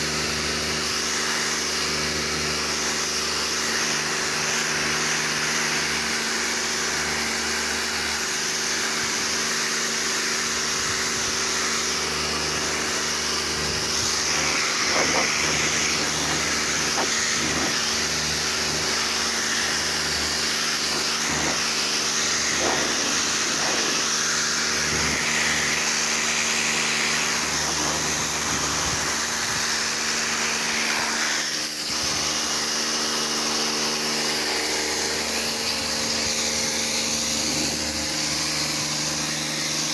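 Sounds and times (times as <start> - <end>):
pressure washer motor humming: 0.0 - 39.9
water jet hissing on car: 0.2 - 39.9.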